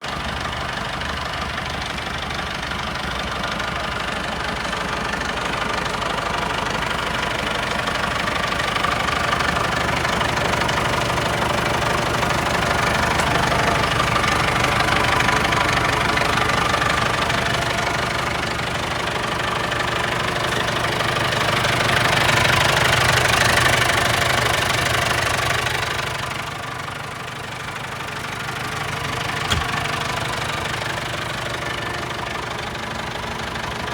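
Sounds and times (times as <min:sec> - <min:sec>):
diesel engine clattering: 0:00.0 - 0:33.9.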